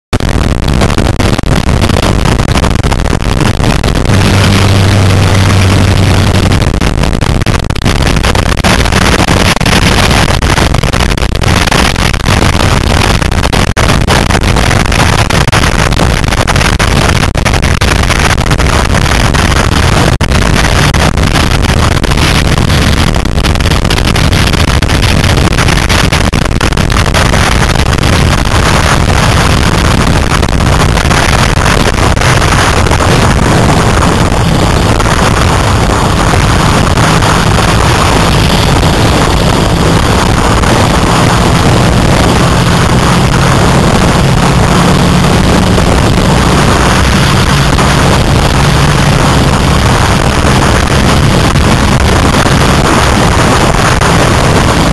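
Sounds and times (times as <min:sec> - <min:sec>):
car engine running: 0:00.1 - 0:54.9
wind buffeting microphone: 0:00.2 - 0:54.9.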